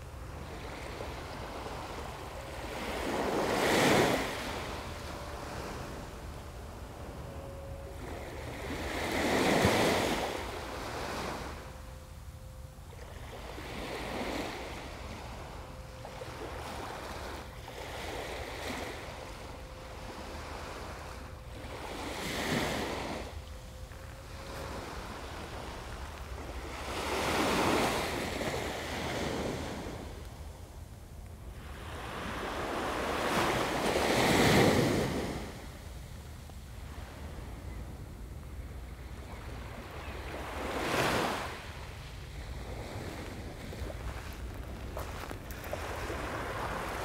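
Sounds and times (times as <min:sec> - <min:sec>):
wind rumble on microphone: 0:00.0 - 0:47.0.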